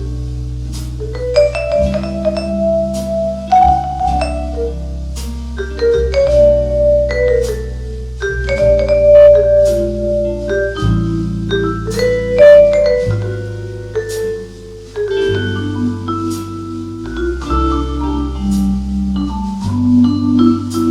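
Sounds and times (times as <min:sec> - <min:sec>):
instrumental jazz over speakers: 0:00.0 - 0:20.9.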